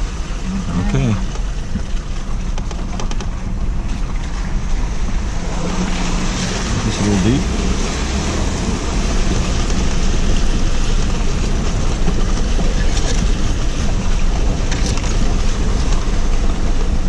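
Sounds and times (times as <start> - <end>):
tyres splashing through water: 0.0 - 17.0
vehicle engine running: 0.0 - 17.0.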